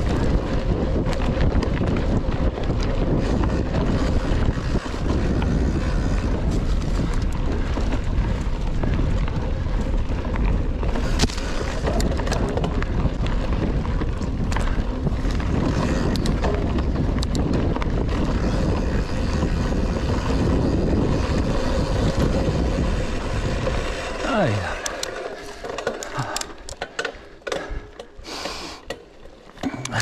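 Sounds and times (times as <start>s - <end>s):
wind on microphone: 0.0s - 24.8s
bike clicks and knocks: 0.0s - 30.0s.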